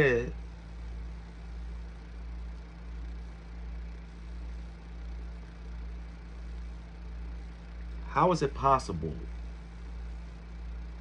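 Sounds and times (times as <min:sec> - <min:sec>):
pulsing low hum: 0:00.0 - 0:11.0.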